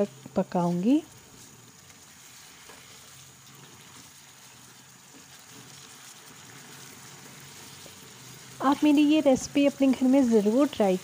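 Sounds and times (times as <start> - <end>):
sauce bubbling and sizzling in pan: 0.0 - 11.0
wooden spoon stirring: 0.5 - 11.0.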